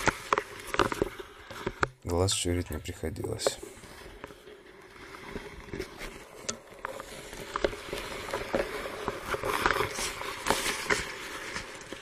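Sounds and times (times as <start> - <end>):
underwater clicks and crackling: 0.0 - 12.0.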